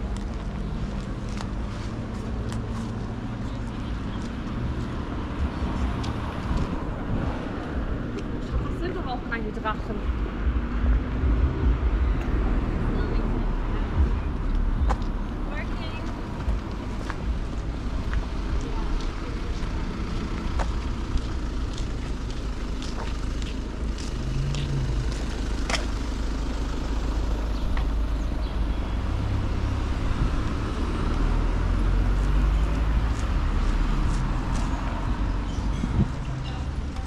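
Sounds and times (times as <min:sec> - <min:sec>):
low rumble of traffic: 0:00.0 - 0:37.0
vehicle engine: 0:00.0 - 0:37.0.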